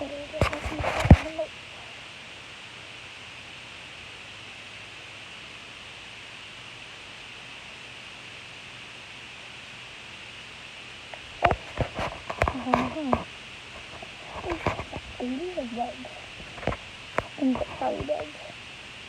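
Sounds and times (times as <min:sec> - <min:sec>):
background hiss: 0:00.0 - 0:19.0
faint low hum: 0:00.0 - 0:19.0.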